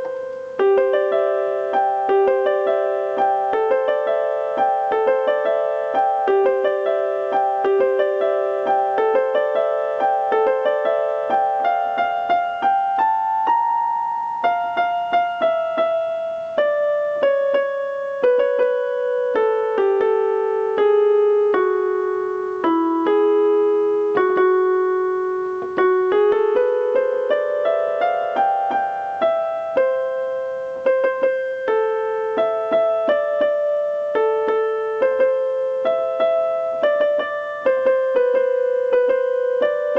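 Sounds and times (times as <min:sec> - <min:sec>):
gentle piano melody: 0:00.0 - 0:39.9.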